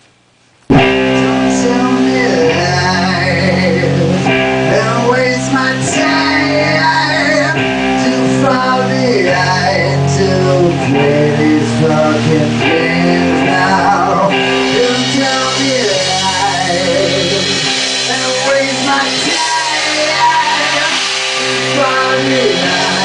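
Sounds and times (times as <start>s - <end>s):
electric guitar chords: 0.7s - 23.0s
man singing: 0.8s - 23.0s.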